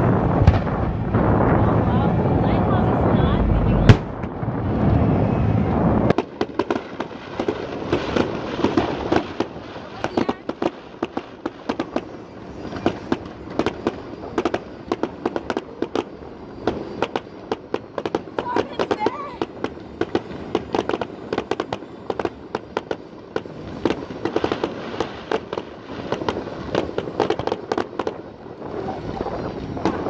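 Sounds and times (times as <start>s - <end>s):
fireworks popping and crackling: 0.0s - 30.0s
fireworks rumbling: 0.0s - 30.0s.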